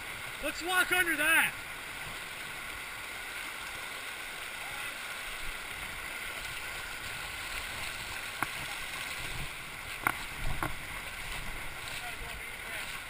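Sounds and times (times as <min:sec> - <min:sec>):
river water rushing over cobbles: 0:00.0 - 0:13.0.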